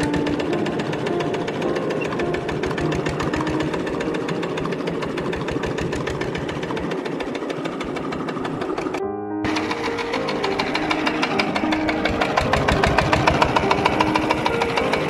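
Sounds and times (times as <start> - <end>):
diesel engine idling with knocking: 0.0 - 15.0.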